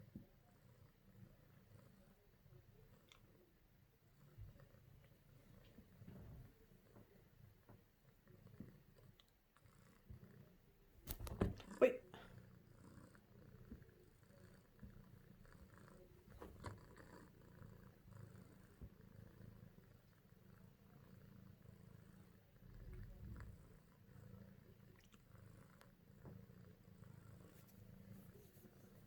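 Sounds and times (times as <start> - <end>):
kitten purring: 0.0 - 29.0.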